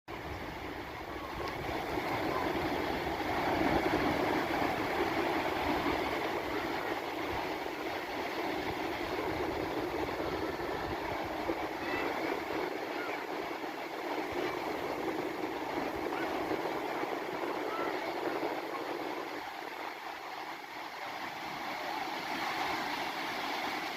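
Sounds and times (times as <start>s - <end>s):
waves breaking on shore: 0.1s - 23.9s.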